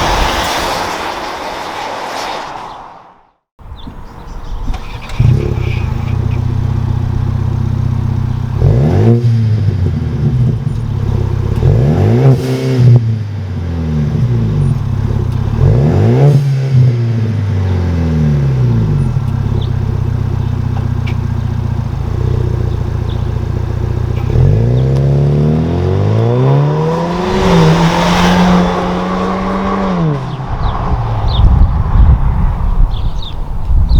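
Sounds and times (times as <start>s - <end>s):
car engine idling and revving: 4.4s - 32.3s.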